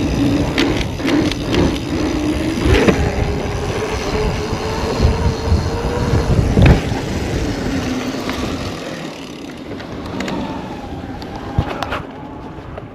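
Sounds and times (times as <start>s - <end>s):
wind noise on camera: 0.0s - 9.0s, 9.7s - 12.9s
bike tyre rumble on dirt: 0.0s - 12.6s
whirring tone: 0.0s - 12.9s.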